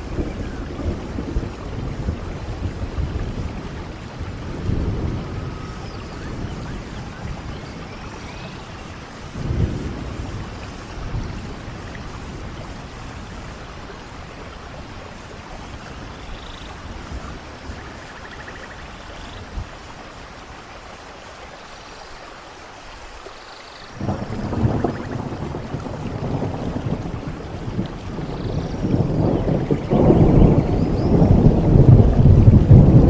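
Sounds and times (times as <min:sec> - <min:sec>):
rolling thunder: 0:00.0 - 0:20.0, 0:23.9 - 0:33.0
heavy rain: 0:00.0 - 0:33.0.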